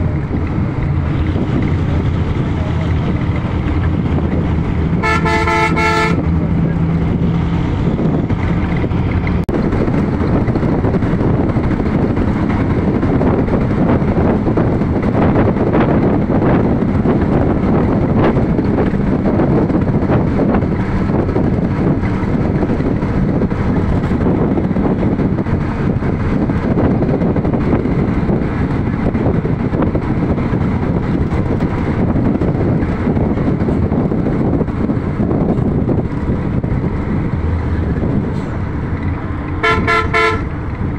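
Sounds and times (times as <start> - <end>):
vehicle road noise: 0.0 - 40.9
wind buffeting microphone: 0.0 - 40.9.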